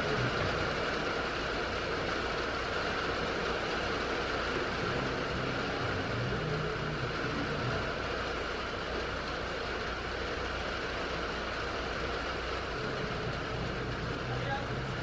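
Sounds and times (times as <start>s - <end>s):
rain on barn roof: 0.0s - 15.0s.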